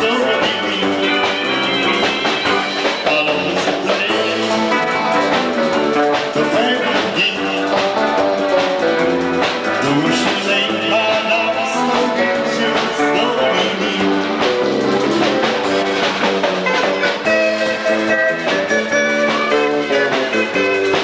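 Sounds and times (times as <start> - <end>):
band music playing: 0.0 - 21.0.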